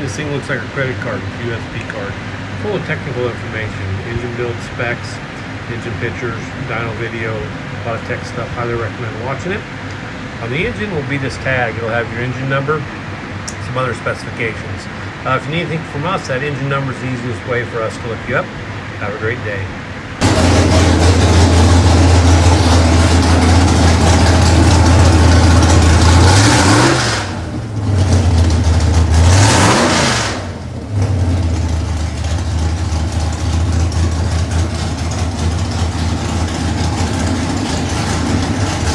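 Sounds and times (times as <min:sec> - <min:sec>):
car engine idling and revving: 0:00.0 - 0:17.5, 0:20.0 - 0:38.9.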